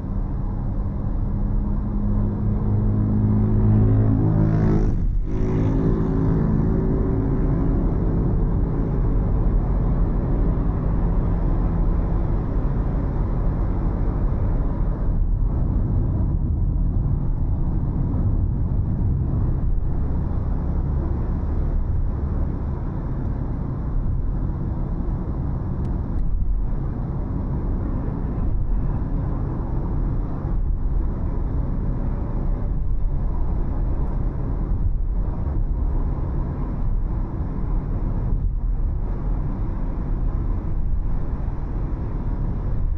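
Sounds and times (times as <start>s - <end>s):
car engine hum: 0.0s - 42.9s
tyre and road noise: 0.0s - 42.9s.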